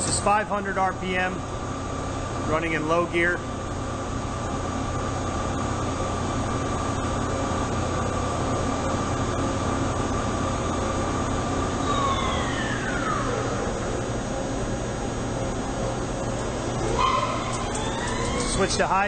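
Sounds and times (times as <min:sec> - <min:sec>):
lathe spindle hum and whine: 0:00.0 - 0:19.0.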